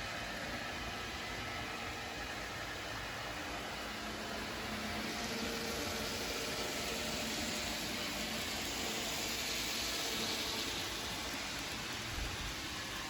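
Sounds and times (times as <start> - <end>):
model train whirring on rails: 0.0 - 13.0.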